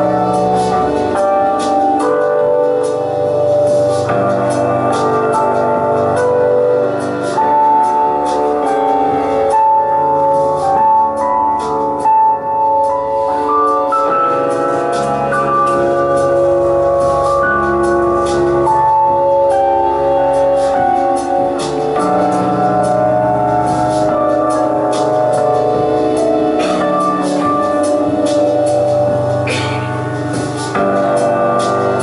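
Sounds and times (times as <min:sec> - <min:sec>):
keyboard playing chords and melody: 0:00.0 - 0:32.0.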